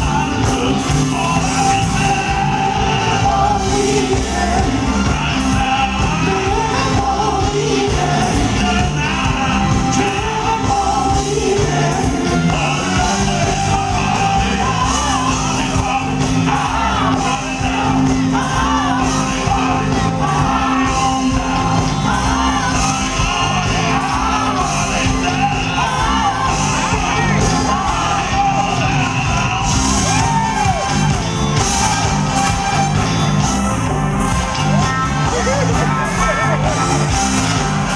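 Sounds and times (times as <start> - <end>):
live vocal group with band: 0.0 - 37.9.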